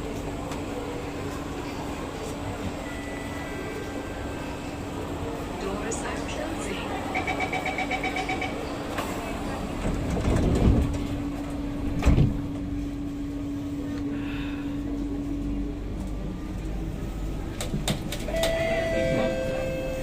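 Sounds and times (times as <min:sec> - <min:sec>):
train car rumbling: 0:00.0 - 0:20.0.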